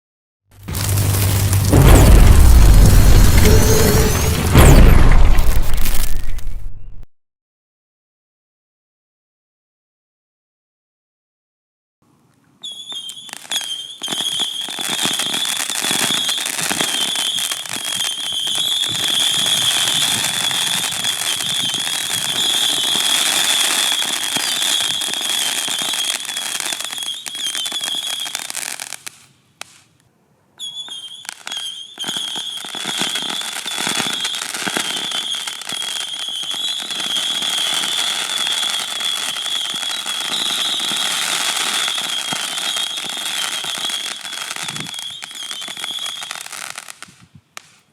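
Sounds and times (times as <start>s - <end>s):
firework pops and crackles: 0.6s - 6.6s, 12.6s - 47.9s
whistling firework missiles: 0.6s - 7.1s, 12.6s - 29.9s, 30.6s - 47.9s.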